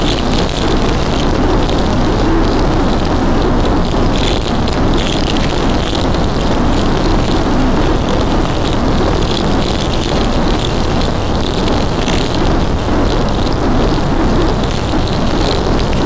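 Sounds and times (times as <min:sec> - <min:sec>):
loud rumbling with hiss: 0:00.0 - 0:16.0.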